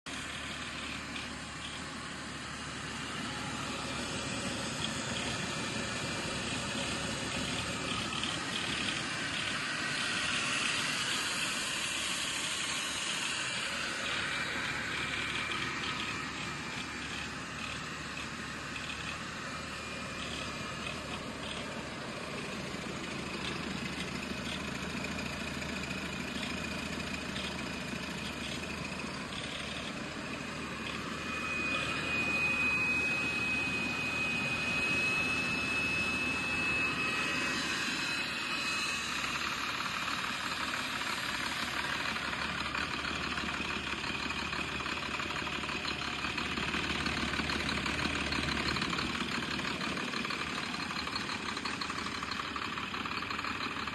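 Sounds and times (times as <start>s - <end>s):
diesel engine running: 0.0s - 53.9s
high steady whistle: 0.6s - 53.9s.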